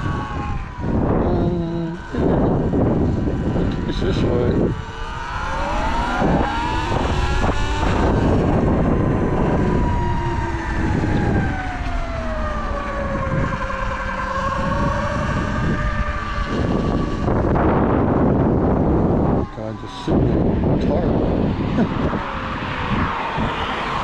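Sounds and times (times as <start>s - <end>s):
low rumble: 0.0s - 23.6s
electric dirt bike drivetrain whine: 0.0s - 24.0s.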